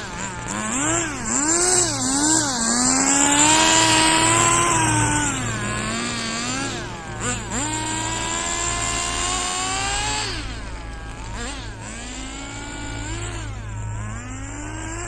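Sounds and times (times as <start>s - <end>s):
rc car engine revving: 0.0s - 15.0s.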